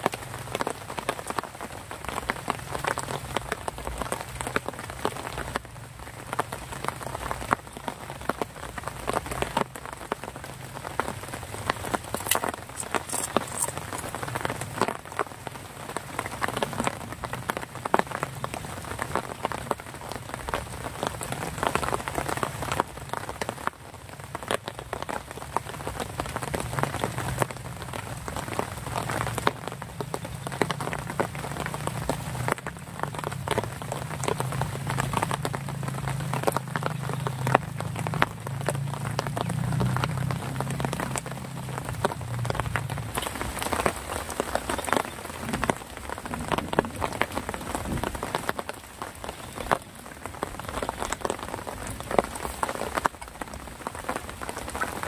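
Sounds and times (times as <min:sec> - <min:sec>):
raindrops ticking close by: 0:00.0 - 0:55.0
steady rain: 0:00.0 - 0:55.0.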